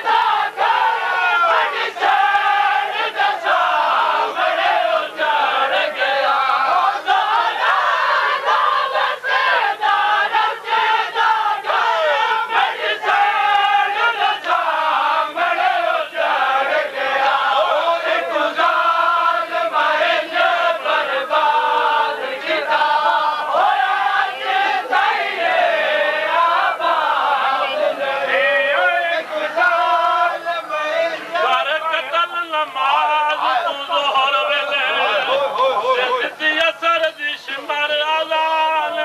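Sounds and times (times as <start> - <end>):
crowd of men chanting: 0.0 - 39.0.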